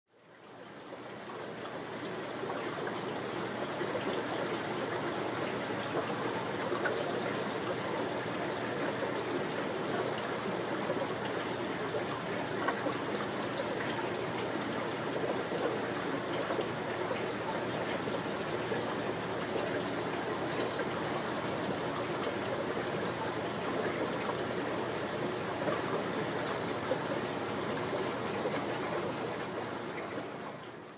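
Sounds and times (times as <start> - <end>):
aquarium water trickling: 0.1 - 30.9.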